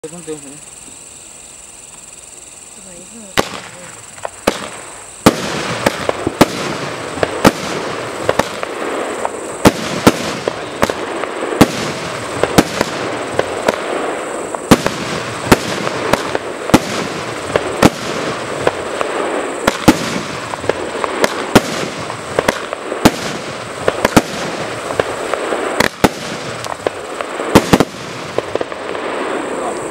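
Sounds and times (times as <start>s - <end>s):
fireworks bangs: 2.9s - 29.9s.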